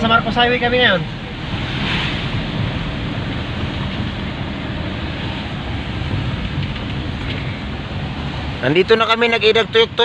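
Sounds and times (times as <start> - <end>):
van driving on wet road: 0.0 - 10.0.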